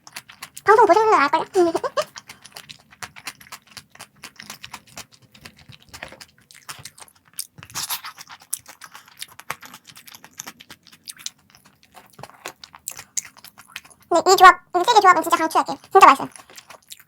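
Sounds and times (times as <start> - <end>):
person chewing crunchy food: 0.0 - 14.1, 14.7 - 17.0.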